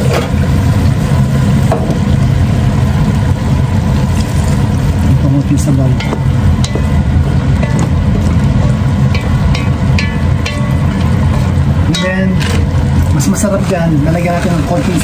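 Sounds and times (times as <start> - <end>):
food sizzling in a pot: 0.0 - 15.0
steady low rumble: 0.0 - 15.0.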